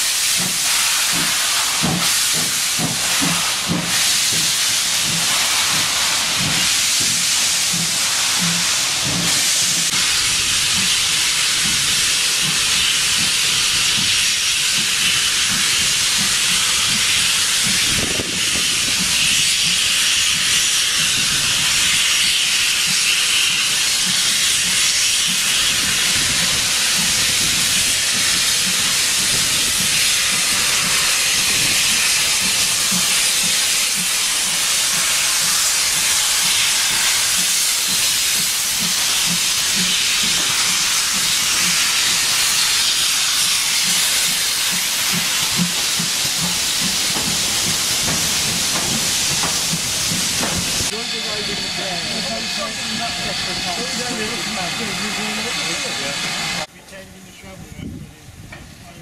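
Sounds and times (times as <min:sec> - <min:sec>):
steam hissing: 0:00.0 - 0:58.9.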